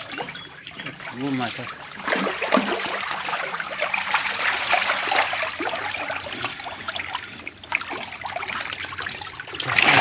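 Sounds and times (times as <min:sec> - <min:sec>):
fish thrashing and splashing: 0:01.7 - 0:10.0.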